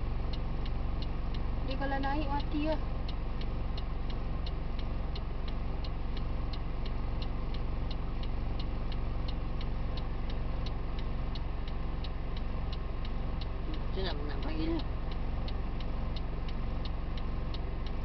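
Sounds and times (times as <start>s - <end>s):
engine idling hum: 0.0s - 18.0s
indicator relay ticking: 0.0s - 18.0s.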